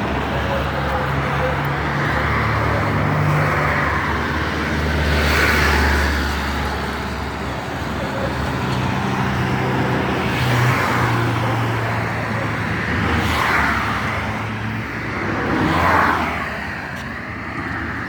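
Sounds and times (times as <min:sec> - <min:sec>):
cars passing: 0:00.0 - 0:18.0
low engine hum of traffic: 0:00.0 - 0:18.0.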